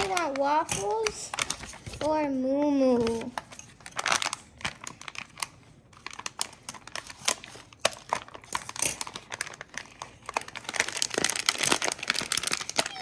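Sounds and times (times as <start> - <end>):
plastic wrapper crinkling and tearing: 0.0 - 2.2, 3.0 - 13.0.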